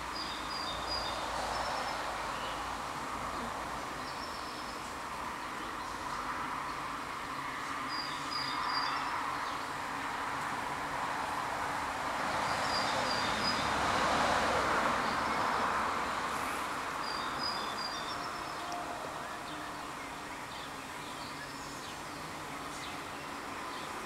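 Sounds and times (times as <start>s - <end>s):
bees buzzing: 0.2s - 24.0s.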